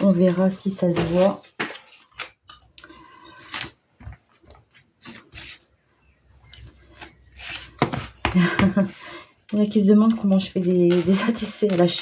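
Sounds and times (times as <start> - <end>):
paper rustling: 0.0 - 5.7, 7.0 - 9.2, 9.8 - 12.0.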